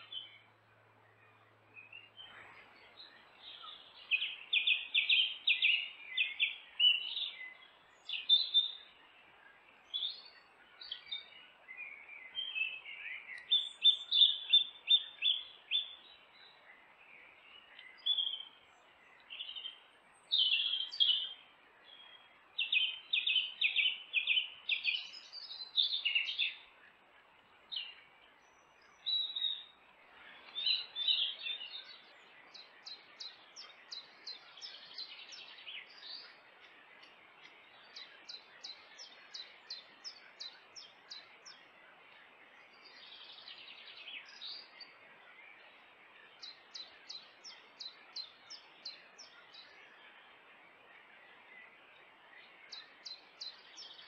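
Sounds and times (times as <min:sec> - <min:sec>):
faint steady hiss: 0:00.0 - 0:54.0
songbirds singing: 0:00.0 - 0:54.0.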